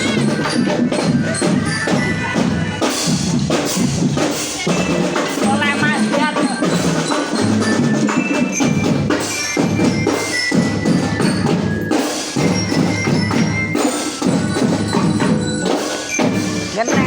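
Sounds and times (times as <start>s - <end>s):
bell lyre melody: 0.0s - 4.1s, 4.7s - 17.0s
marching drums beating: 0.0s - 17.0s.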